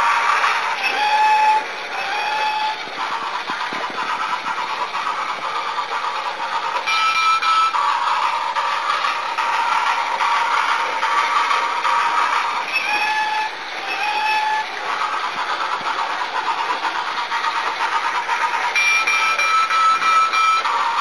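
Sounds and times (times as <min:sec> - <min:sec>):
toy roller coaster clattering: 0:00.0 - 0:21.0.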